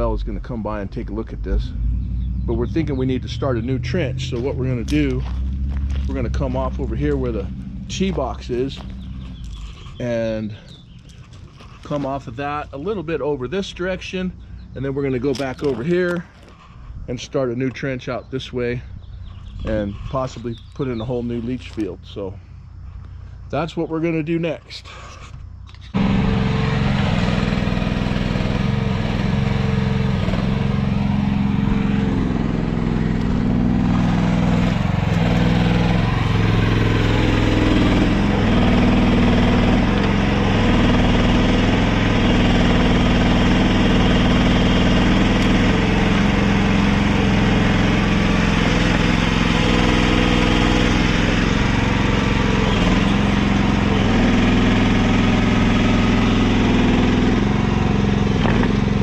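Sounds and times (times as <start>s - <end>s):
excavator diesel engine running: 0.0s - 16.9s, 24.8s - 59.0s.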